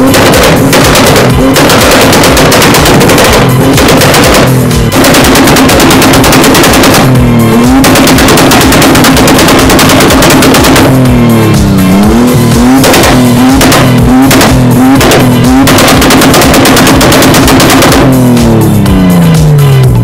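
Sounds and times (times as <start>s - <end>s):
car engine revving with popping crackle: 0.0s - 20.0s.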